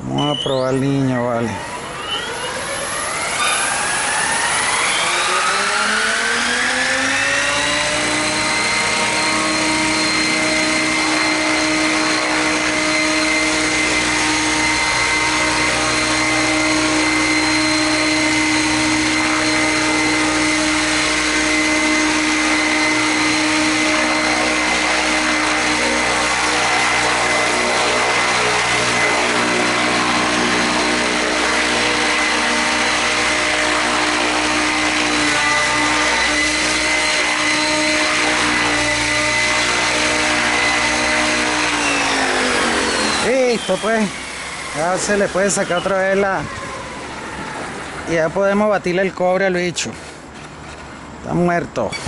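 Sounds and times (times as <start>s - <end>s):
model helicopter motor whine: 0.0s - 49.7s.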